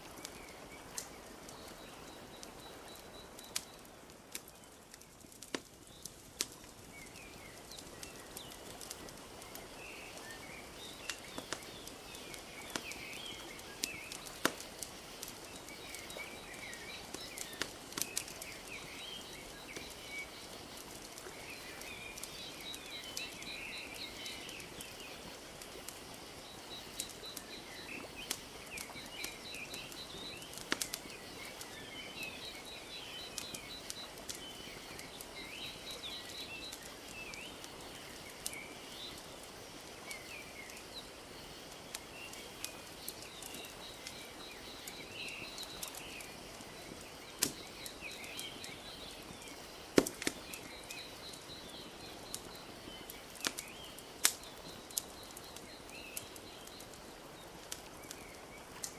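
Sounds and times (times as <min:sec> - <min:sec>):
small birds chirping: 0:00.0 - 0:58.9
wood fire crackling and popping: 0:00.0 - 0:58.9.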